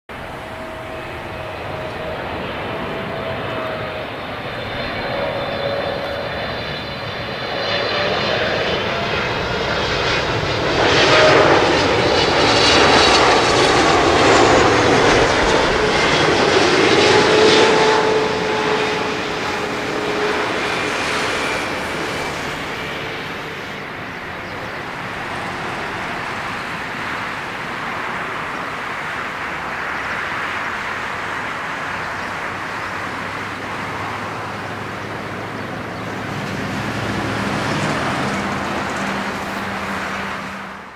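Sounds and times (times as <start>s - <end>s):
jet engine whine falling: 0.1s - 40.9s
jet rumble on runway: 0.1s - 40.9s.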